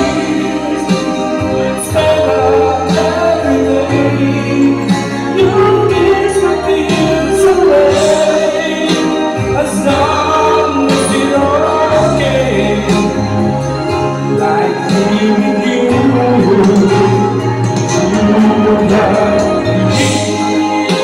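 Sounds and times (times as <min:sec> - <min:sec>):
karaoke backing track: 0:00.0 - 0:21.0
man singing into microphone: 0:00.0 - 0:21.0.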